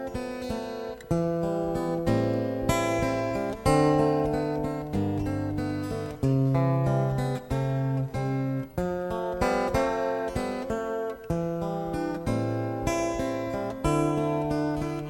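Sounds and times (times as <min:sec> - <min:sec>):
acoustic guitars strumming chords: 0:00.0 - 0:15.0.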